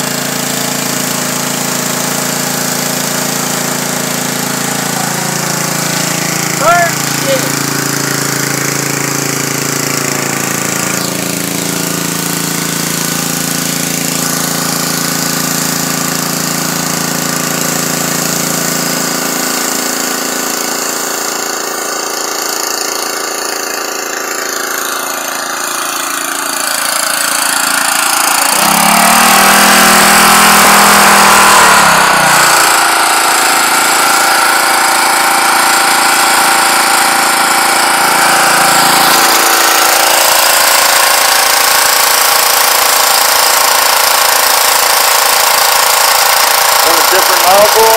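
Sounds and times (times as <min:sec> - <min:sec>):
pressure washer motor hum: 0:00.0 - 0:47.9
water jet hitting concrete: 0:00.0 - 0:47.9.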